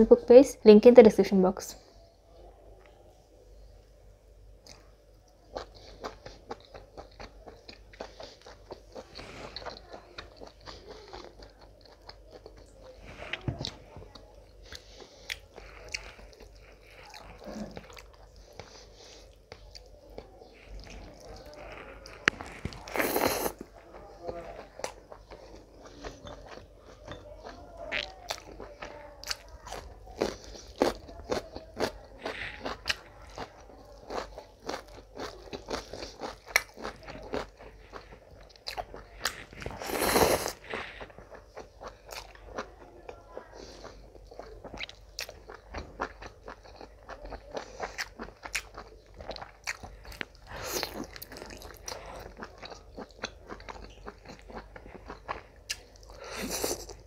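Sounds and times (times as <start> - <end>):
close-miked chewing: 4.5 - 57.0.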